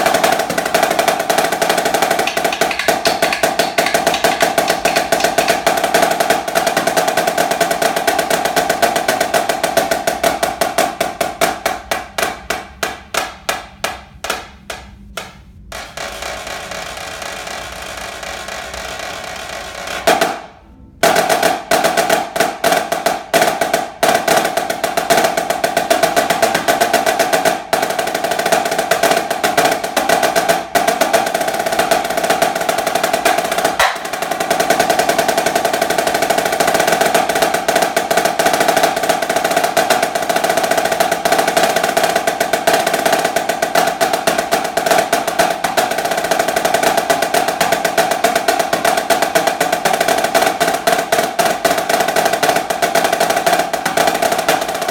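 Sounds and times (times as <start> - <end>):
snare drum roll: 0.0 - 54.9.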